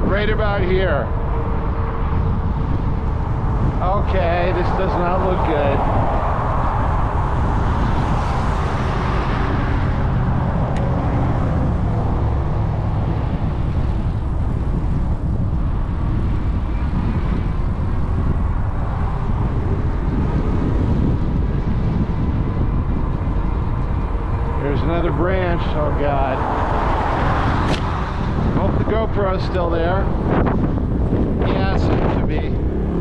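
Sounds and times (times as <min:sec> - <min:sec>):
rumbling tyre noise: 0:00.0 - 0:33.0
wind buffeting microphone: 0:00.0 - 0:33.0.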